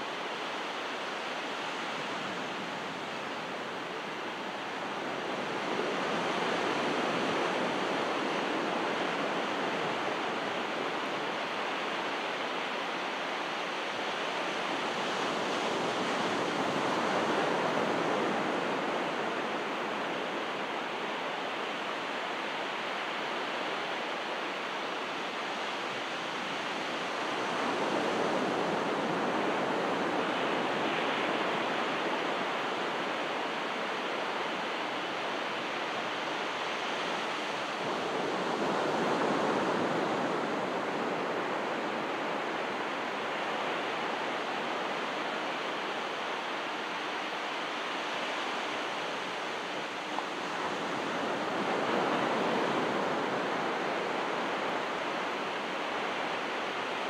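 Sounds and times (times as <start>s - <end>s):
ocean waves washing on beach: 0.0s - 57.0s.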